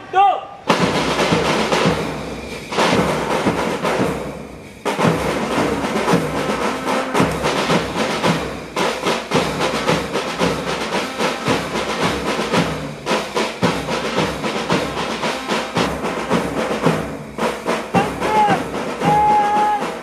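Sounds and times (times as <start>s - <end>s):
drums playing rapid strokes: 0.6s - 20.0s.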